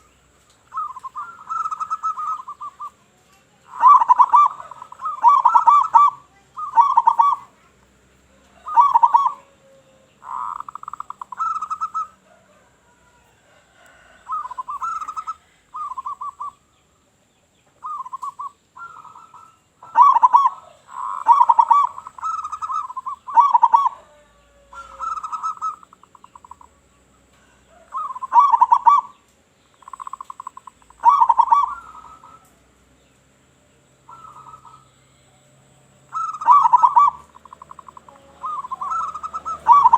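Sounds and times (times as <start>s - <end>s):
doves cooing: 0.0s - 16.7s, 17.7s - 32.8s, 33.8s - 39.9s.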